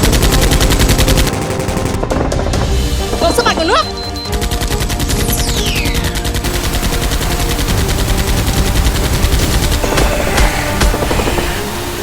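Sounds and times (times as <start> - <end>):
rapid machine-gun fire: 0.0 - 2.9, 4.2 - 12.0.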